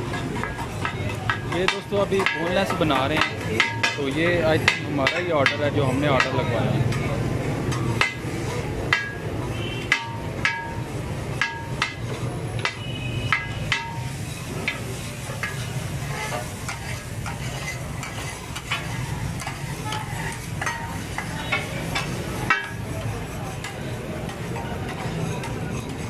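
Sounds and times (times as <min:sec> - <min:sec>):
food sizzling: 0:00.0 - 0:26.0
knife striking steel griddle: 0:00.0 - 0:26.0.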